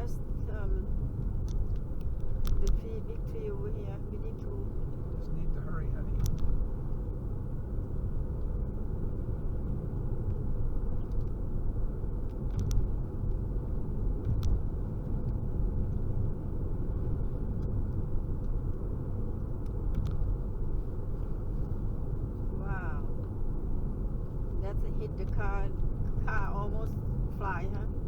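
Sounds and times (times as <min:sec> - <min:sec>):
car road noise from inside: 0:00.0 - 0:28.0.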